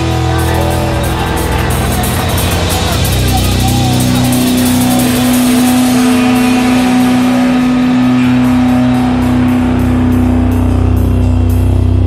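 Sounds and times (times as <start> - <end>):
held low note: 0.0 - 12.0
loud rock music: 0.0 - 12.0.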